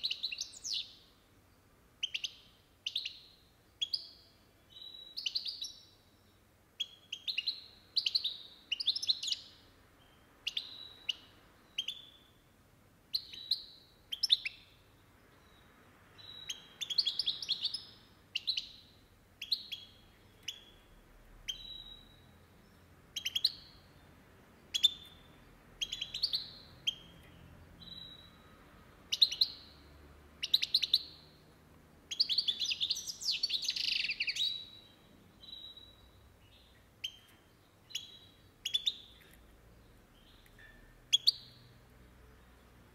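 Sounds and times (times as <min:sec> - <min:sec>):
goldfinch singing: 0:02.0 - 0:06.0, 0:06.8 - 0:12.4, 0:13.1 - 0:14.8, 0:15.4 - 0:31.4, 0:32.1 - 0:41.6.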